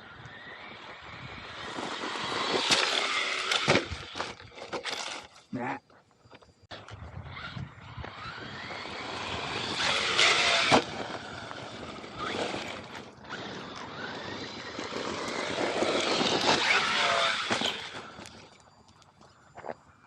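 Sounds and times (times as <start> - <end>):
rc truck motor whine: 0.0 - 5.5, 6.7 - 20.0
tyres on gravel: 0.0 - 20.0.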